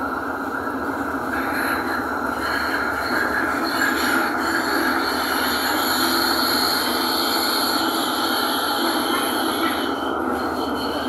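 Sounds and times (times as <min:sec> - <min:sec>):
rolling rumble of tram: 0:00.0 - 0:11.0
tram wheels squealing on rails: 0:00.0 - 0:11.0.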